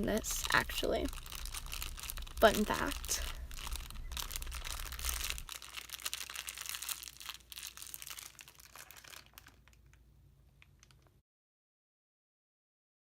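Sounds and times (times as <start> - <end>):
crinkling craft materials: 0.0 - 11.2.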